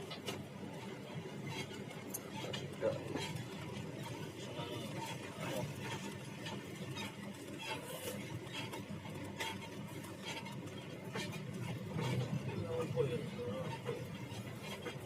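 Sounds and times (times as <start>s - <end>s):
rattles and creaks from body: 0.0s - 15.0s.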